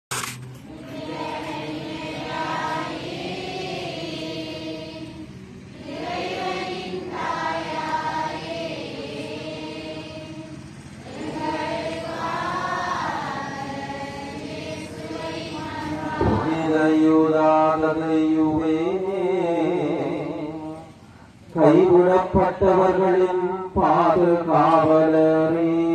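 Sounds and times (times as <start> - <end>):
group singing a hymn: 0.6 - 25.9.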